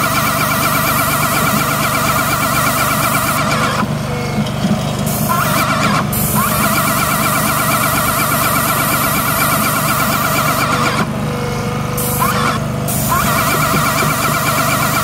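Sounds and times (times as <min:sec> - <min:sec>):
paint sprayer motor whine: 0:00.0 - 0:04.4, 0:05.1 - 0:15.0.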